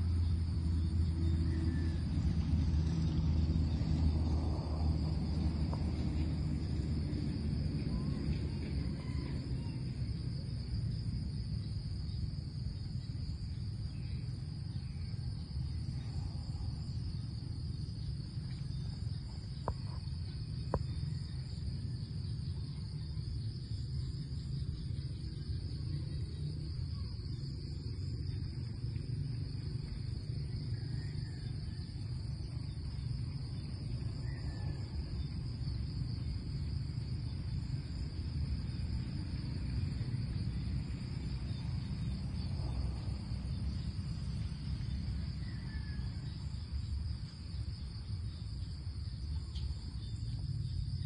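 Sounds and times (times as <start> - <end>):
insects droning: 0.0 - 51.0
low steady rumble: 0.0 - 51.0.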